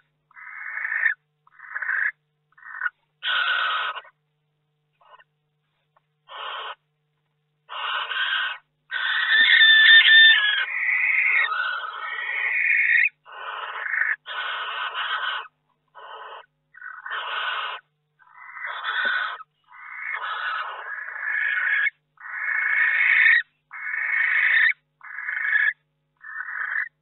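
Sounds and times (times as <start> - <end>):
barn owls screeching: 0.0 - 4.2, 5.0 - 5.3, 6.3 - 6.8, 7.7 - 27.0.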